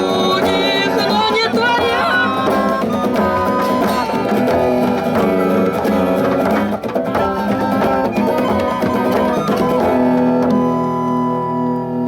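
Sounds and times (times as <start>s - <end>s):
instrumental music with percussion: 0.0s - 11.8s.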